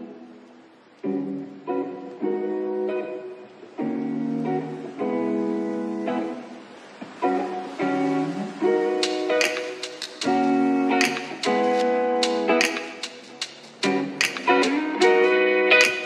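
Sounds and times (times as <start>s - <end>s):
guitar strumming chords: 0.0s - 16.0s.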